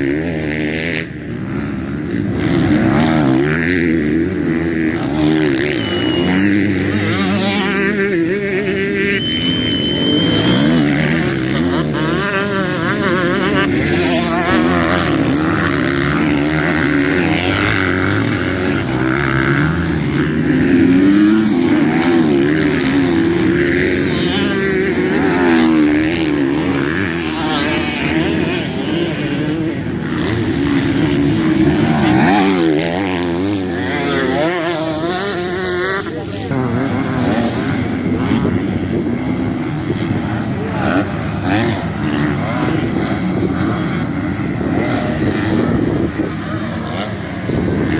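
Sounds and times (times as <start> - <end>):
motorcycle engines revving: 0.0 - 47.9.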